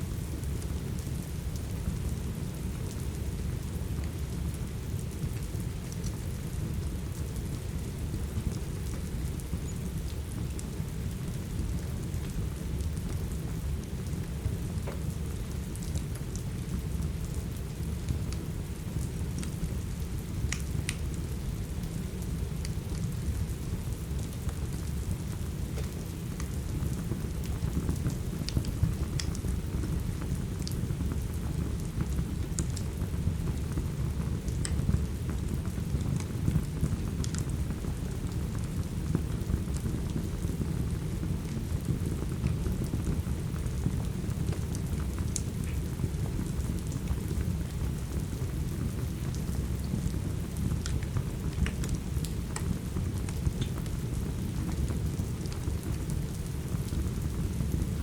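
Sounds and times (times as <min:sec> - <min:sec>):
steady rain: 0:00.0 - 0:58.0
wood fire crackling: 0:00.1 - 0:58.0.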